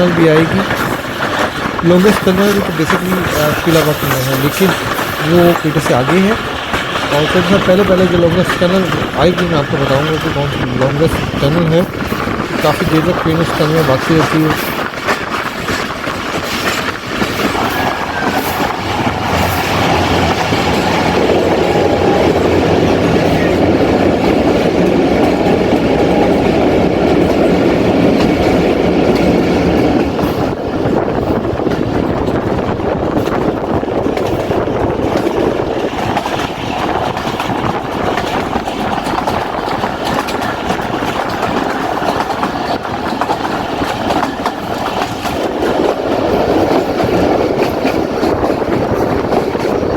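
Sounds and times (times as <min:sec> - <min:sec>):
train carriage rumble: 0:00.0 - 0:49.9
wheels clattering over rail joints: 0:00.0 - 0:49.9.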